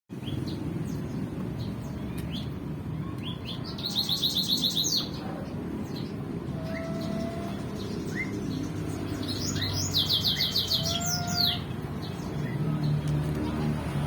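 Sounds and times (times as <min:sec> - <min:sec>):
caged birds chirping: 0:00.1 - 0:14.0.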